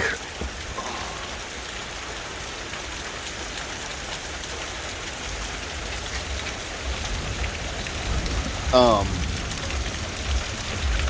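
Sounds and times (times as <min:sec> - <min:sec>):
heavy rain splashing on ground: 0:00.0 - 0:11.0.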